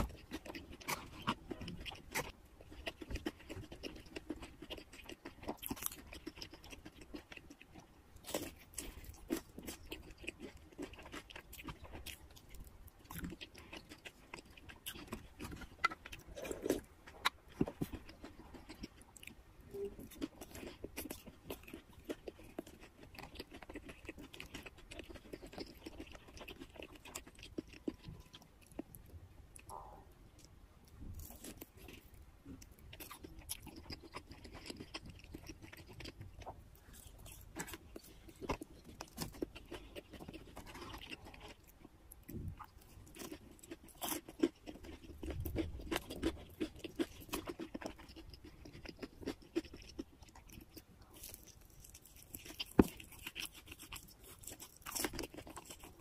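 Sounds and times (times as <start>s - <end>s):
crisp crunching of chewing: 0.0s - 56.0s.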